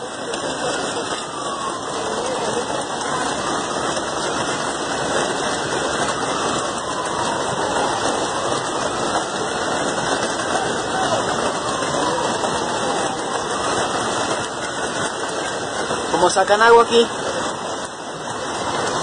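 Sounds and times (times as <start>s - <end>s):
heavy rain: 0.0s - 19.0s
rushing floodwater: 0.0s - 19.0s.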